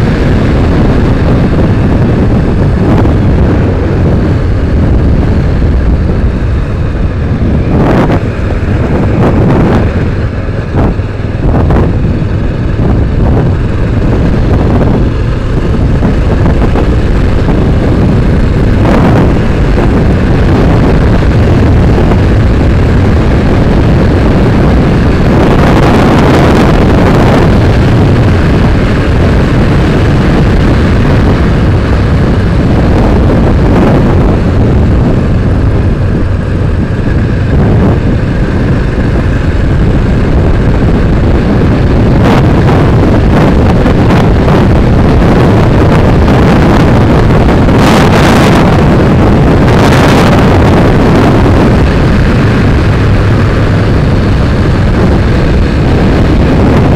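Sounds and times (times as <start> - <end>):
motorcycle engine running: 0.0 - 56.9
wind rushing on microphone: 0.0 - 56.9.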